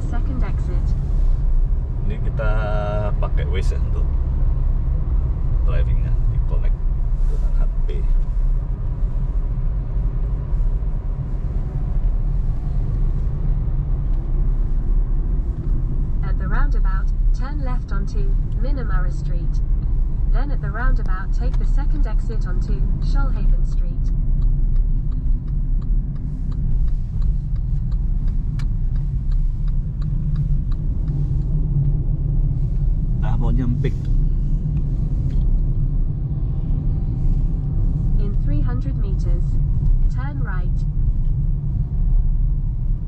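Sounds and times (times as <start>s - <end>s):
car driving low rumble: 0.0s - 43.0s
turn indicator ticking: 0.0s - 43.0s.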